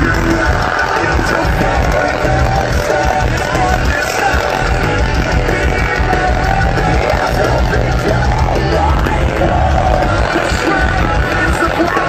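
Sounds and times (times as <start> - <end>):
distorted guitars: 0.0 - 12.0
heavy drums: 0.0 - 12.0
live metal band playing loudly: 0.0 - 12.0.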